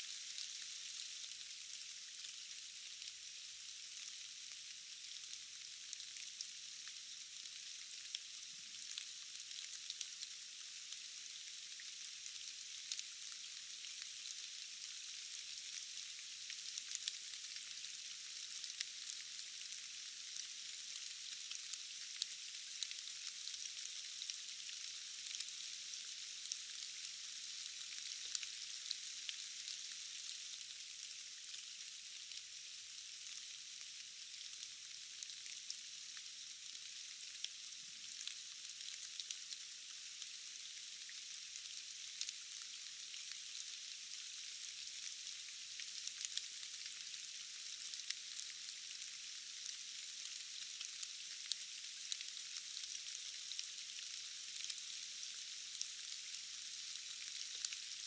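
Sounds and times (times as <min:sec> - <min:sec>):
steady rain hiss: 0:00.0 - 0:58.0
rain drops ticking: 0:04.0 - 0:58.0.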